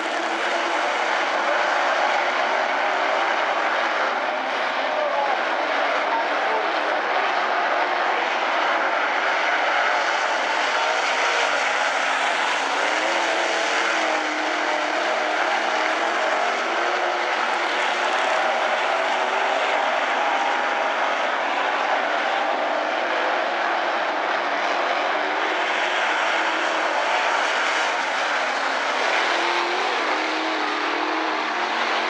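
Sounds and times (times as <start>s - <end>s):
race car engines running hard: 0.0s - 32.0s.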